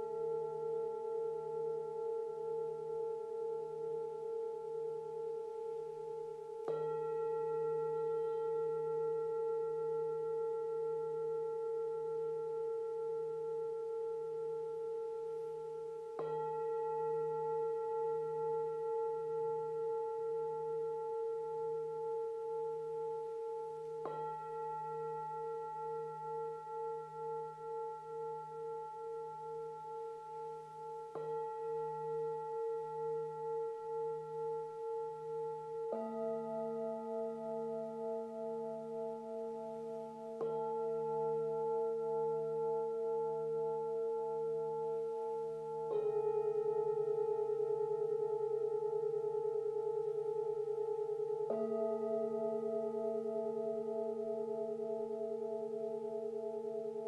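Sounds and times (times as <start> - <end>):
singing bowls ringing: 0.0 - 57.0.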